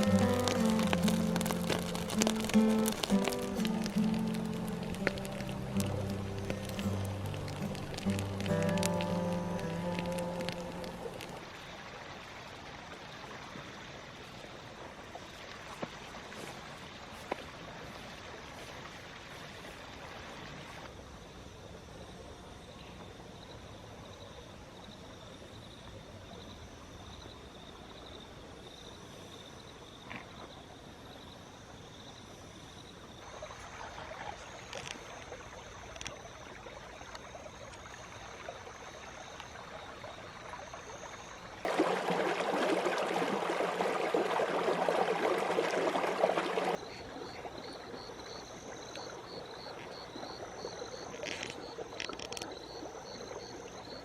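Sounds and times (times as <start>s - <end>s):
insects chirring: 0.0s - 11.8s, 15.2s - 54.0s.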